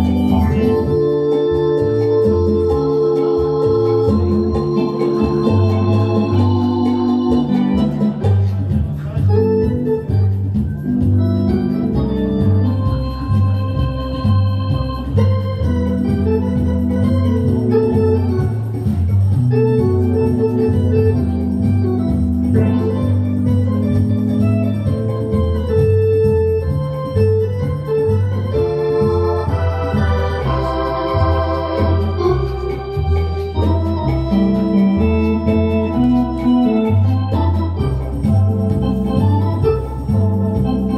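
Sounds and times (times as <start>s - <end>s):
organ playing: 0.0s - 40.9s.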